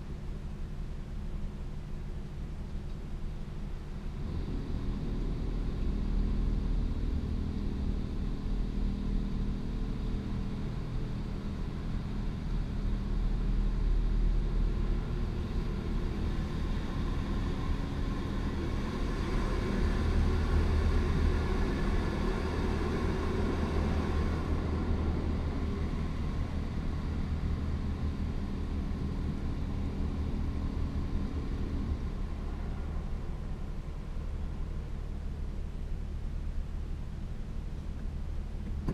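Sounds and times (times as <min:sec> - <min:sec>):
car wash motor hum: 0:00.0 - 0:38.9.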